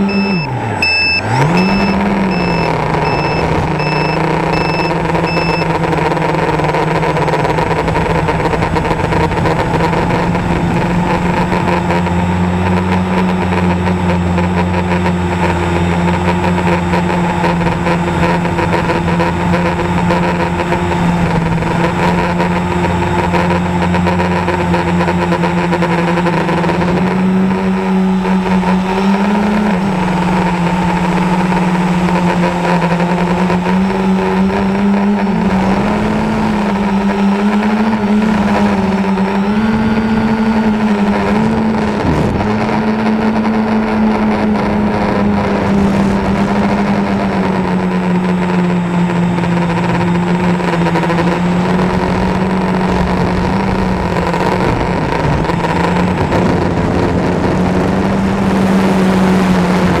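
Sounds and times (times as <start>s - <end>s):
drone motors humming: 0.0s - 60.0s.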